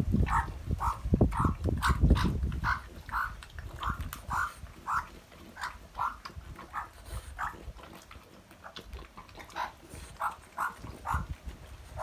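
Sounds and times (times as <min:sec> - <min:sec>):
dog eating from a skillet: 0:00.0 - 0:12.0.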